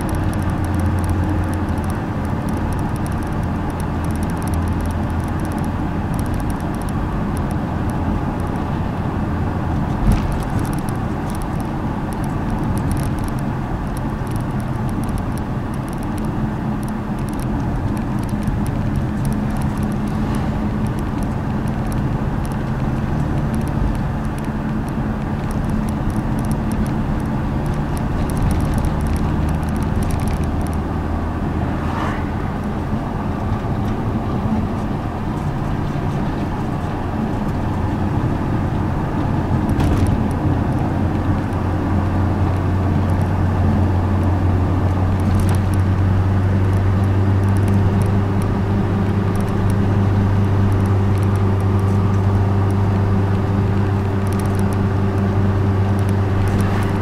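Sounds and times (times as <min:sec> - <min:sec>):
car engine hum: 0:00.0 - 0:57.0
tyre and road noise: 0:00.0 - 0:57.0.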